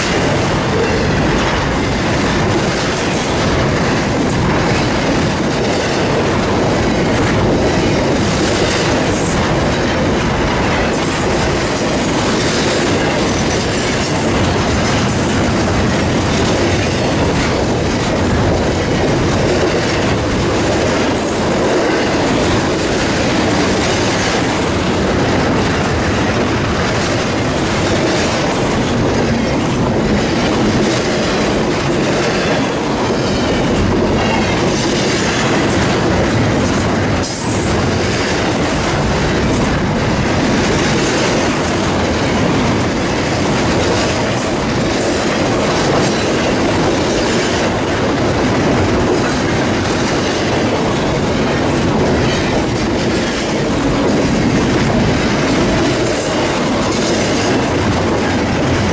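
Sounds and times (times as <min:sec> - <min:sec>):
freight train wheels rattling on rail: 0:00.0 - 0:58.9
rail clicks: 0:00.0 - 0:58.9.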